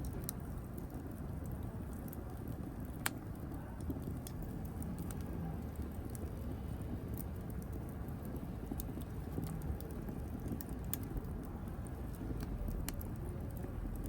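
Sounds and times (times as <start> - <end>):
fire crackling and popping: 0.0 - 14.0
wood fire rumbling: 0.0 - 14.0.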